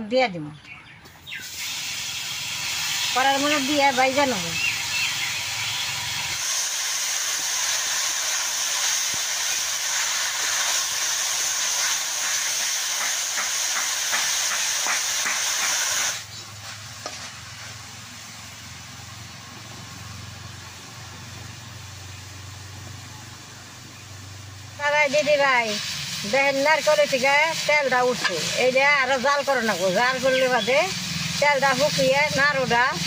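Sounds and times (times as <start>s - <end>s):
coconut and jaggery sizzling: 0.8s - 33.0s.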